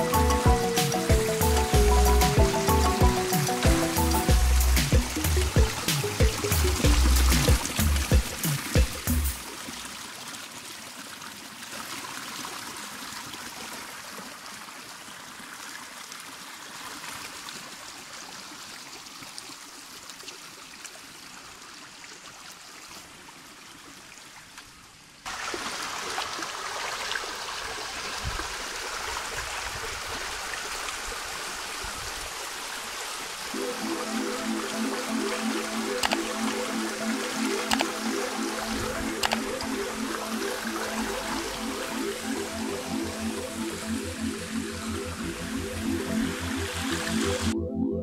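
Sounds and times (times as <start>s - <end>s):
stream flowing over stones: 0.0s - 47.5s.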